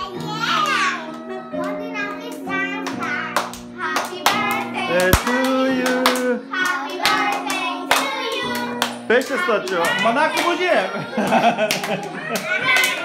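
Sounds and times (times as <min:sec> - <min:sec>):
music: 0:00.0 - 0:13.0
hand claps: 0:00.1 - 0:13.0.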